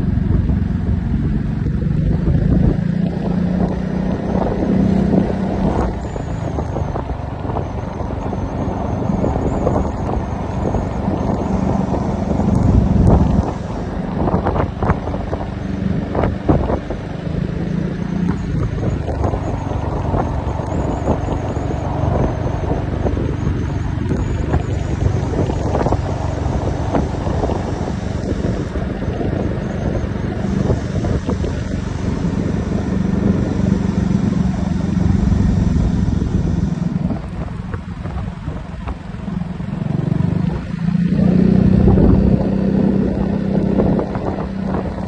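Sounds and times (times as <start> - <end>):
road noise: 0.0 - 45.0
scooter engine hum: 0.0 - 45.0
wind buffeting microphone: 0.0 - 45.0.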